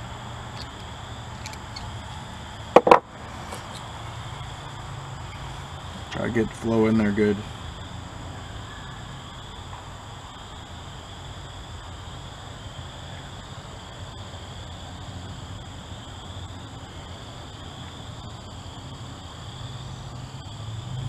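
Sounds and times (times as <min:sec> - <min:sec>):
constant high hiss: 0:00.0 - 0:21.0.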